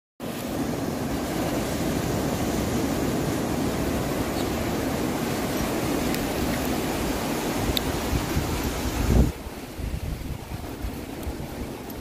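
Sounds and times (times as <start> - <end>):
waves washing around pier pilings: 0.2 - 12.0
wind rumble on microphone: 0.5 - 12.0.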